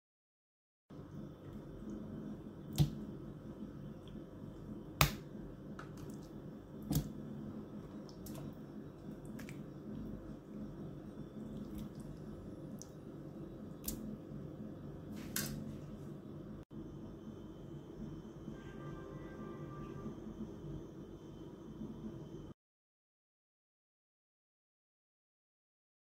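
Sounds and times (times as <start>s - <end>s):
low hum: 0.9s - 22.6s.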